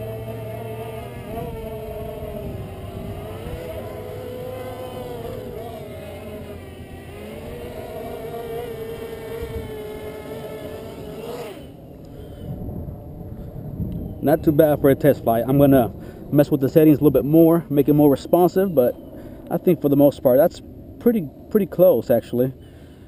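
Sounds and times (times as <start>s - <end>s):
quadcopter motors buzzing: 0.0s - 20.6s.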